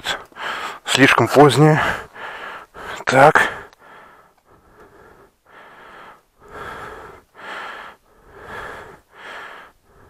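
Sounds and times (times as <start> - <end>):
man breathing heavily: 0.0 - 0.9, 1.6 - 10.0.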